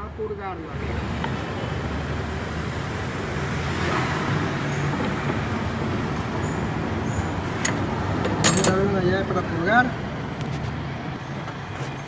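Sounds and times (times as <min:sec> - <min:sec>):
motor vehicle rumble: 0:01.1 - 0:12.0.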